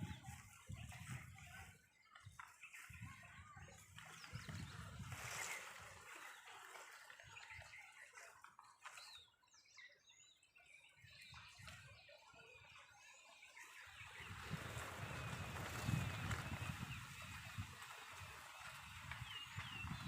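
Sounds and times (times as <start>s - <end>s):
bird chirps and calls: 0.0s - 20.0s.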